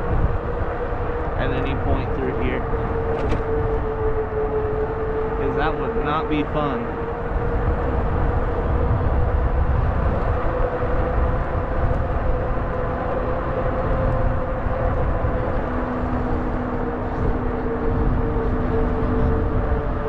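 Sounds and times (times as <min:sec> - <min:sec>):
low rolling rumble: 0:00.0 - 0:20.0
lower whine: 0:00.0 - 0:20.0
wind on microphone: 0:00.0 - 0:20.0.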